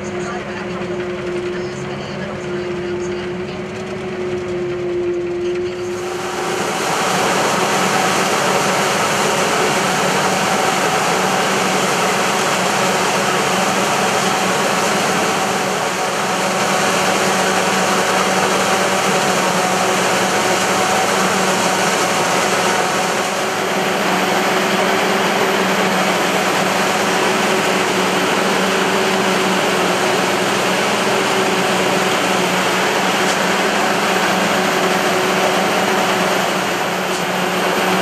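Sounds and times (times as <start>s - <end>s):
forage harvester droning: 0.0s - 38.0s.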